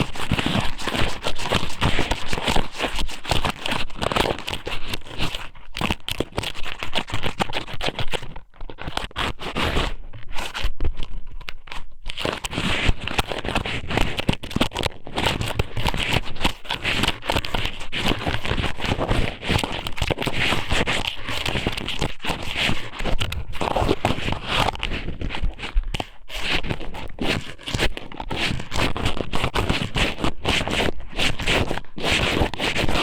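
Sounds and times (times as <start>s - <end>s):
squid rubbed on microphone crackling: 0.0s - 33.0s.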